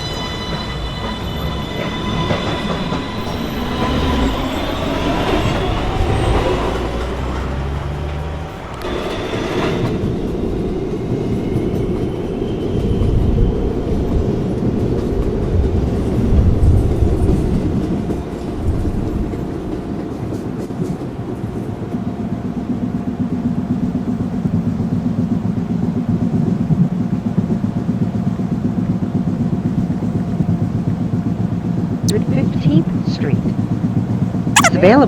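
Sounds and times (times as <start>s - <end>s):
subway traction motors whining: 0.0s - 35.0s
train wheel clatter on rails: 0.0s - 35.0s.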